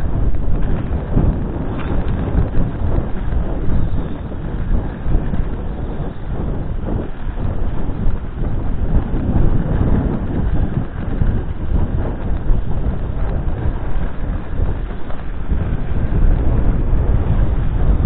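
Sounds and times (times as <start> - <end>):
skis running over snow: 0.0 - 18.0
wind buffeting microphone: 0.0 - 18.0.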